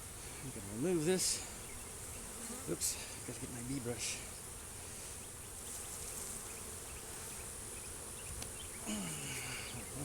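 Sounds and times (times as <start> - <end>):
honey bees buzzing: 0.0 - 10.0.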